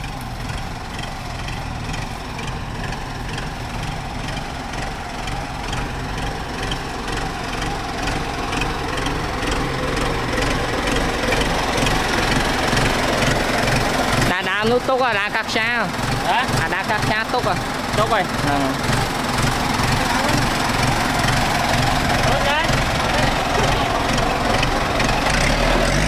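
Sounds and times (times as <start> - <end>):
tractor diesel engine idling: 0.0 - 26.0.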